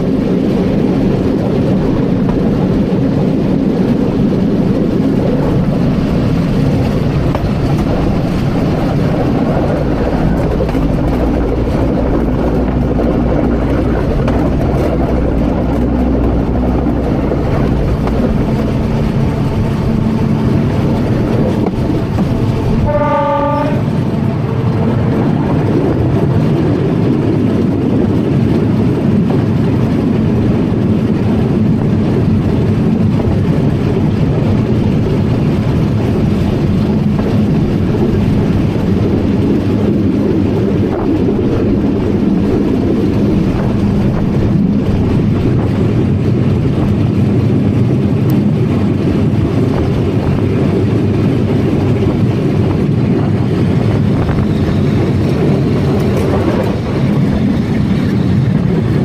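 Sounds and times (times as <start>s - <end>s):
electric train running: 0.0s - 59.0s.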